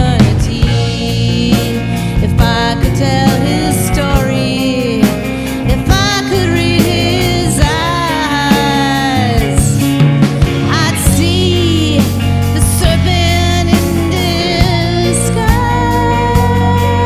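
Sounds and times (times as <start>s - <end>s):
drum beat: 0.0s - 14.9s
rock ballad band: 0.0s - 17.0s
sliding lead melody: 0.0s - 17.0s.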